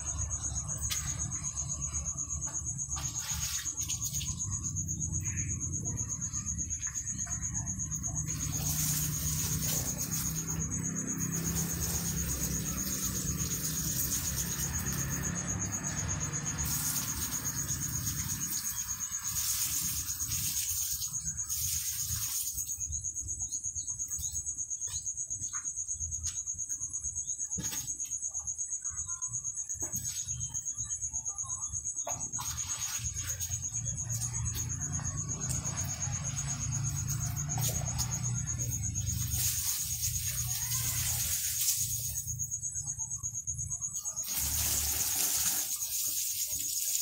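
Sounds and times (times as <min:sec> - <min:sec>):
insect trilling: 0:00.0 - 0:47.0.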